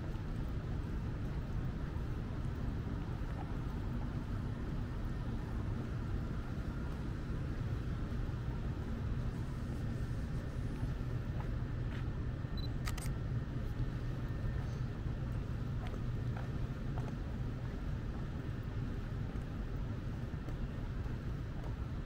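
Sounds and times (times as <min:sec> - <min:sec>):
city street rumble: 0:00.0 - 0:22.0.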